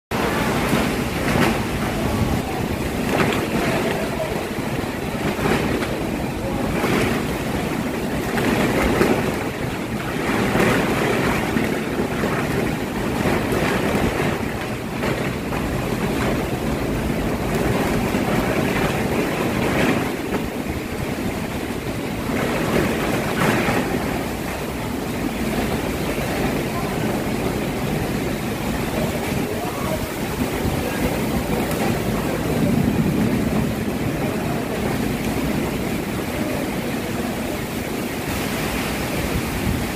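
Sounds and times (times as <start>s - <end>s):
heavy rain pouring: 0.1s - 39.9s
strong wind gusts: 0.1s - 39.9s
wind rumbling on microphone: 0.1s - 39.9s.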